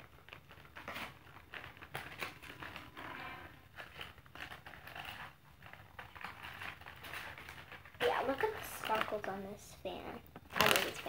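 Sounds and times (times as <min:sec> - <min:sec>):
hand fan rustling: 0:00.0 - 0:09.6, 0:10.4 - 0:11.0.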